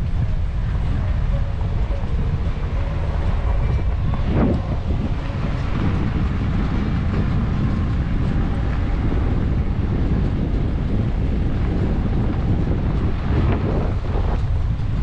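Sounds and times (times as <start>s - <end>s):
vehicle running: 0.0s - 15.0s
wind buffeting microphone: 0.0s - 15.0s.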